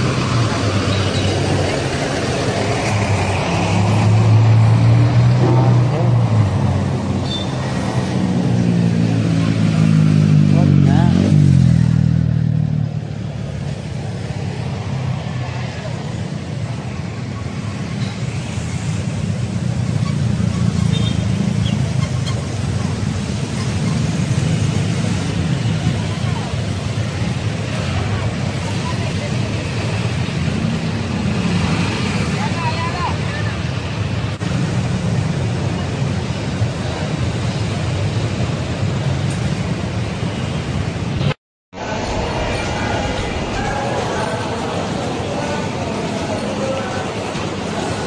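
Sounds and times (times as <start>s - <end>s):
motor vehicle rumble: 0.0s - 48.0s
road noise: 0.0s - 48.0s.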